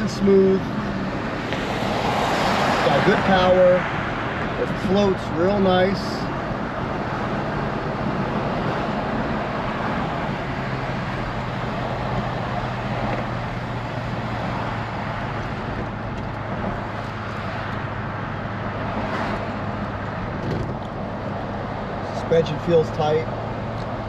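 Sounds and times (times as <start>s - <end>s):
low engine hum: 0.0s - 24.0s
tyre and road noise: 0.0s - 24.0s.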